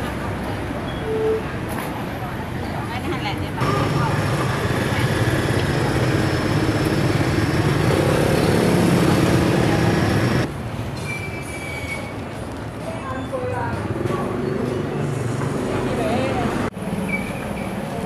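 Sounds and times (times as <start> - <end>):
roadside traffic rumble: 0.0 - 18.0.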